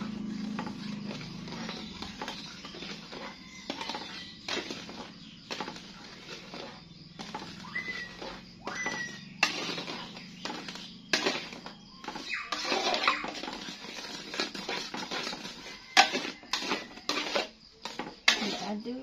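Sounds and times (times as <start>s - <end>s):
spoon scraping a metal pan: 0.0s - 19.0s.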